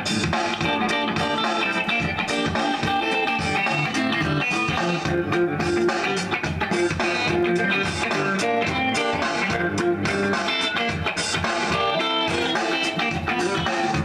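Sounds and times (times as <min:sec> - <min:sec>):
electric guitar picked notes: 0:00.0 - 0:14.0.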